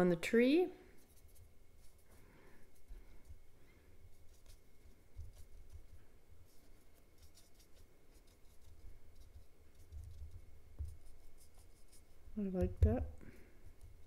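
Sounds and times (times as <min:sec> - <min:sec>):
paintbrush scratching on paper: 0:00.8 - 0:12.4.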